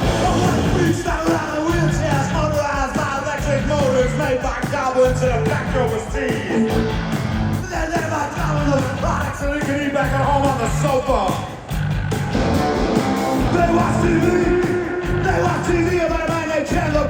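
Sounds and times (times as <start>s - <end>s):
drums and bass beat: 0.0s - 17.0s
rock band playing live: 0.0s - 17.0s.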